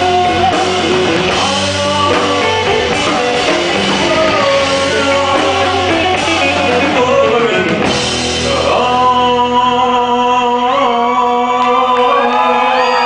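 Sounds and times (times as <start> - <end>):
live rock band: 0.0 - 13.0
man singing: 0.0 - 13.0.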